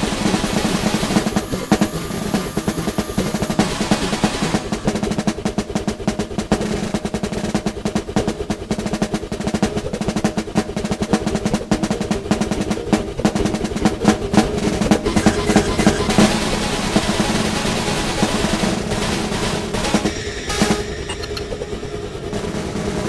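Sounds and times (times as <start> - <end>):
drum strokes and rolls: 0.0 - 23.0.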